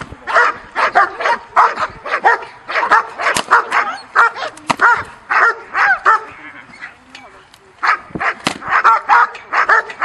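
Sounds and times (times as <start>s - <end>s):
dog barking rapidly: 0.3s - 6.4s, 7.8s - 10.0s.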